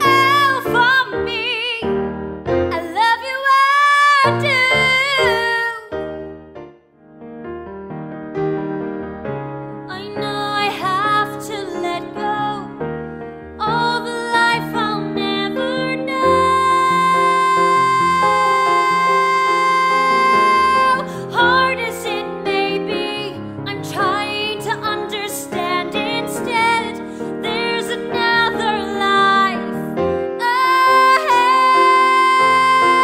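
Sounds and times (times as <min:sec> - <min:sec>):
woman singing: 0:00.0 - 0:02.0, 0:02.7 - 0:06.2, 0:09.9 - 0:12.8, 0:13.6 - 0:33.0
piano accompaniment: 0:00.0 - 0:33.0.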